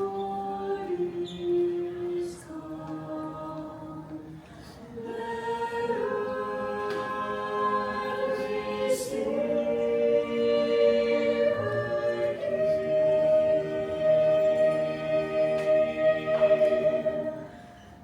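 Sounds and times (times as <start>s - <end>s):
vocal ensemble singing harmony: 0.0s - 18.0s.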